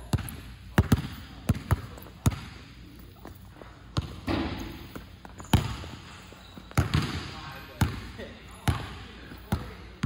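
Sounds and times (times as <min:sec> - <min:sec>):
basketball bouncing on court: 0:00.0 - 0:02.6, 0:03.9 - 0:10.0.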